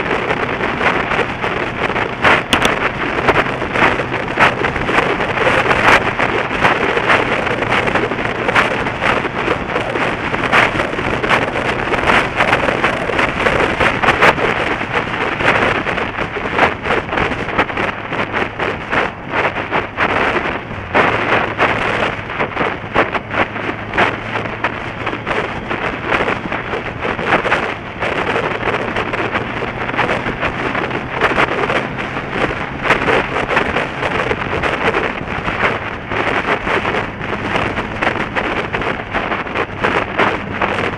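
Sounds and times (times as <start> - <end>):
motorcycle engine hum: 0.0 - 40.9
wind buffeting on microphone: 0.0 - 40.9.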